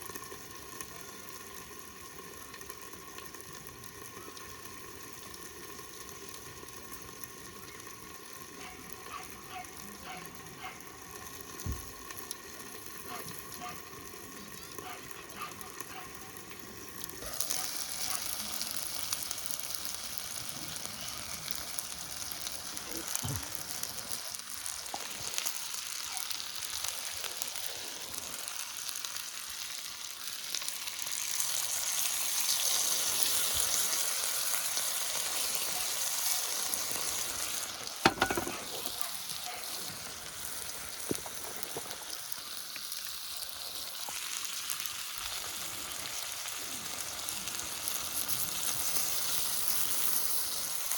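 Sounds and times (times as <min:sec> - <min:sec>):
meat sizzling in a pan: 0:00.0 - 0:50.9.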